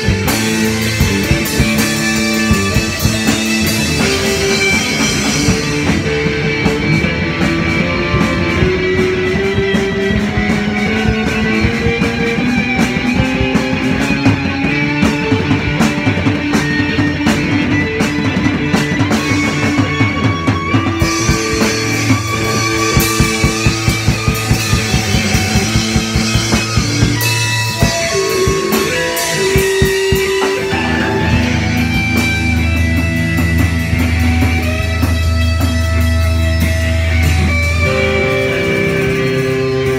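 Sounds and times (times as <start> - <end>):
busy drumming on drum kit: 0.0 - 39.9
electric guitars: 0.0 - 39.9.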